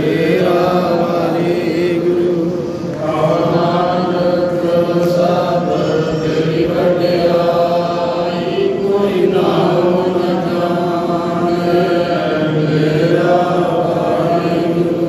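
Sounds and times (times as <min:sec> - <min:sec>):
person chanting devotional song: 0:00.0 - 0:15.0.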